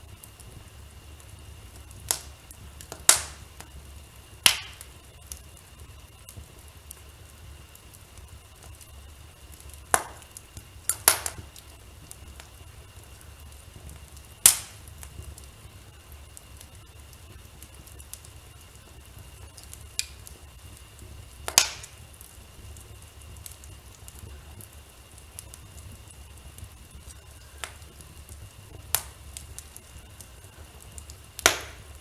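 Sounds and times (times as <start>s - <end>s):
fireplace fire crackling: 0.0s - 32.0s.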